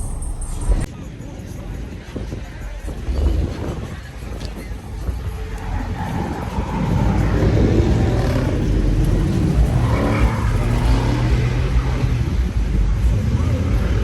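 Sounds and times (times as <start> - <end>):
car engine revving: 2.4 - 14.0.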